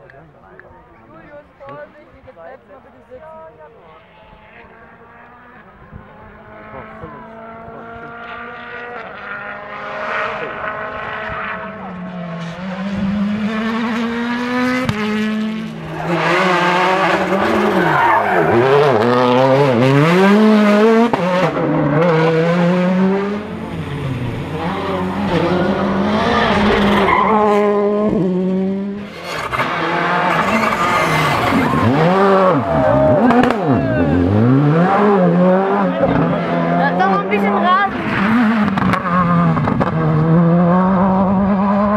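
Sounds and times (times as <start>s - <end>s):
rally car engines revving: 0.0s - 41.9s
car approaching from afar: 1.0s - 41.9s.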